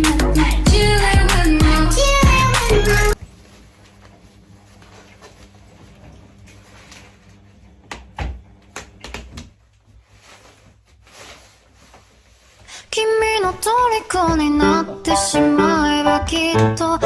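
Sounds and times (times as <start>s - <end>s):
low room hum: 0.8s - 17.0s.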